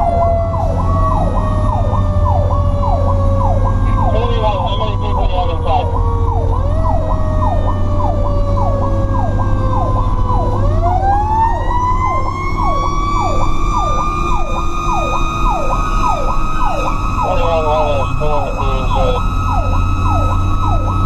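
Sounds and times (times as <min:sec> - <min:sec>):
electronic siren yelping: 0:00.0 - 0:21.0
truck engine rumble: 0:00.0 - 0:21.0.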